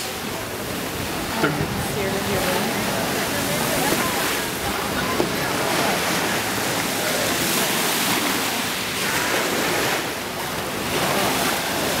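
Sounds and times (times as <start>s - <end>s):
ocean surf washing in: 0.0s - 12.0s.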